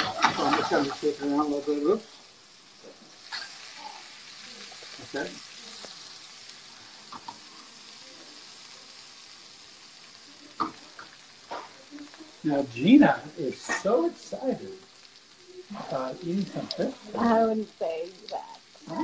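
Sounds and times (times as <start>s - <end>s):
fish sizzling in a pan: 0.0s - 19.0s.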